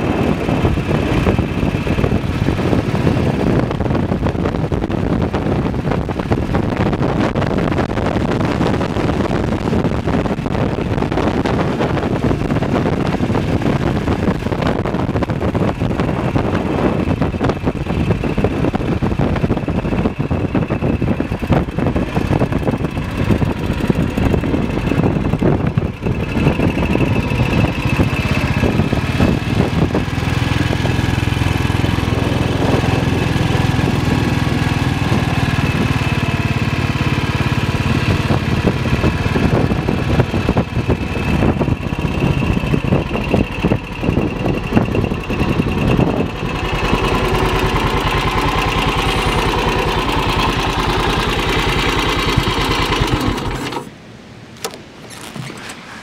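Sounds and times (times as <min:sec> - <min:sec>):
motorcycle engine running: 0:00.0 - 0:54.0
wind noise: 0:00.0 - 0:56.0.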